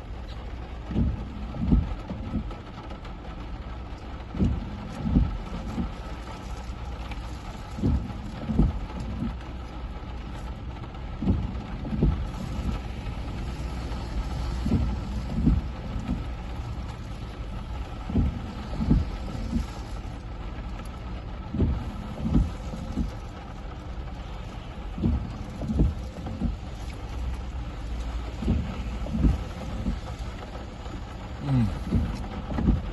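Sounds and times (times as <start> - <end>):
wind and rain rushing: 0.0 - 32.9.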